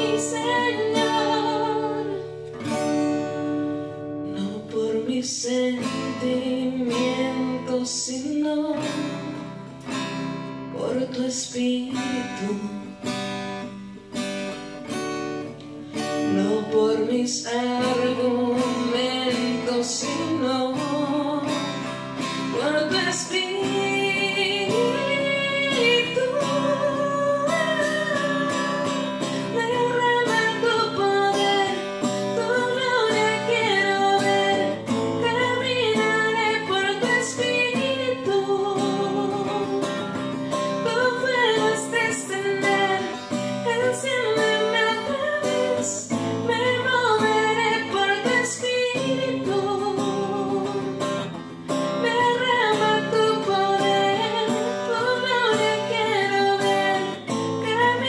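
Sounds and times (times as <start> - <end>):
woman singing: 0.0 - 13.8, 14.9 - 58.0
acoustic guitar strumming: 0.0 - 58.0.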